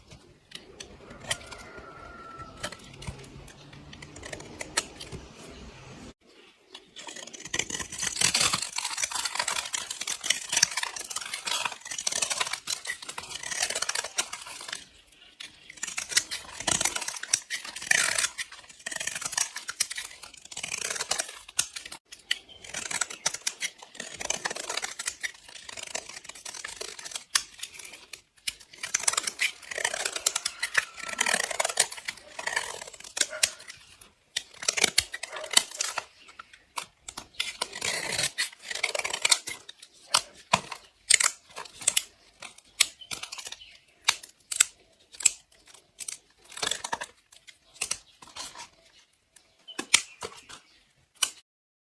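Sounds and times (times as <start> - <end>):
blade slicing through soap: 0.1 - 6.0, 6.9 - 48.8.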